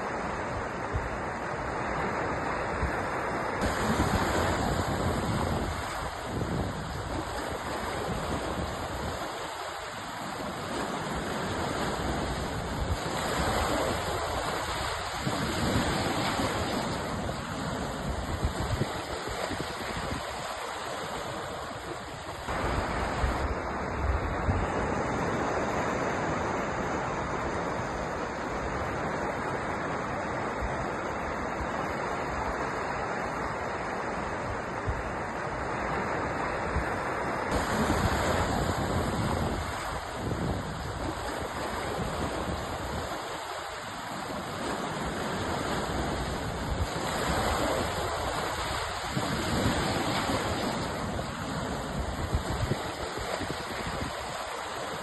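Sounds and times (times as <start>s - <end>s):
sea surf washing: 0.0s - 55.0s.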